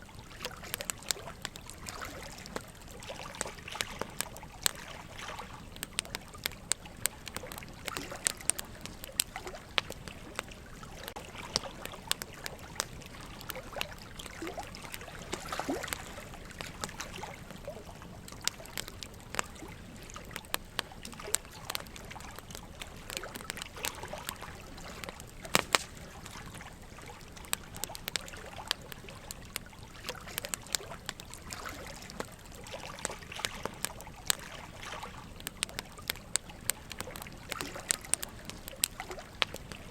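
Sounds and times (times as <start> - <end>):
running water trickling: 0.0 - 39.9
wood fire crackling: 0.0 - 39.9.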